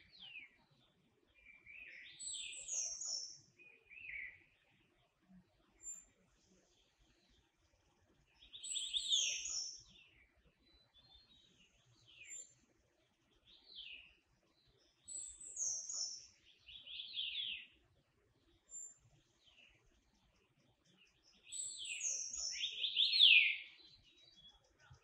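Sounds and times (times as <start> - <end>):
bird singing: 0.0 - 7.4, 8.2 - 25.0.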